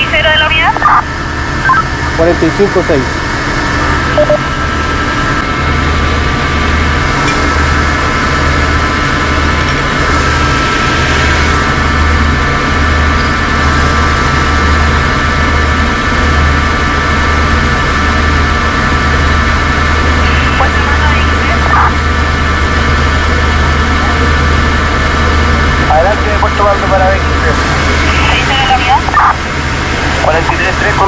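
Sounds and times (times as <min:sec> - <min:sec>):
large engine throbbing: 0:00.0 - 0:31.0
steady whine: 0:00.0 - 0:31.0.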